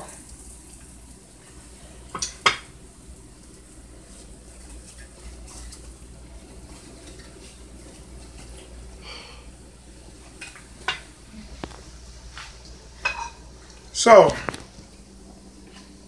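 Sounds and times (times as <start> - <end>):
oil sizzling in a skillet: 0.0 - 16.0.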